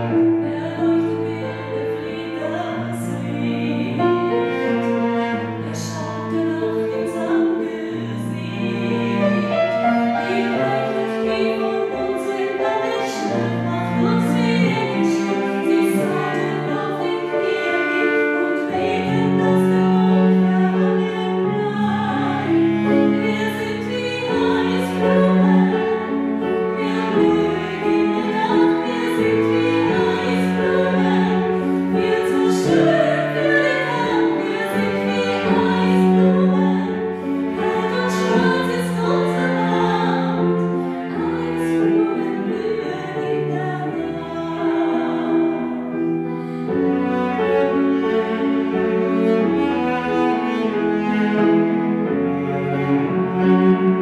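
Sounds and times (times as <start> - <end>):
vocal ensemble singing in harmony: 0.0 - 50.5.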